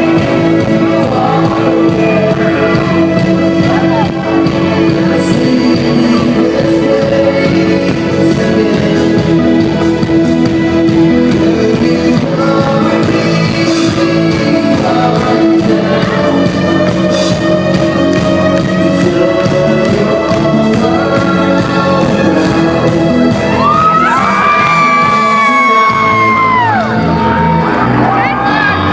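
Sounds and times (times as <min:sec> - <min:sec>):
steady drum beat: 0:00.0 - 0:26.8
electronic rock band playing: 0:00.0 - 0:28.9.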